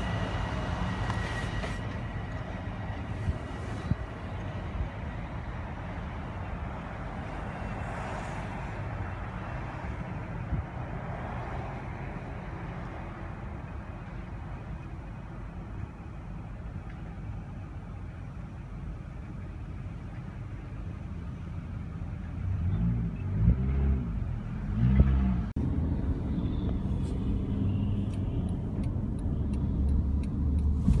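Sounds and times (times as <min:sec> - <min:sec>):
road rumble: 0:00.0 - 0:31.0.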